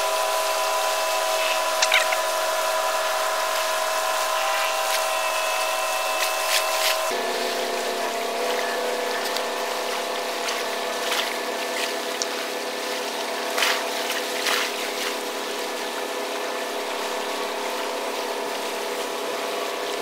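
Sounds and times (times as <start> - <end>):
river water washing: 0.0 - 20.0
ship diesel engine droning: 0.0 - 20.0
water splashes: 0.0 - 20.0.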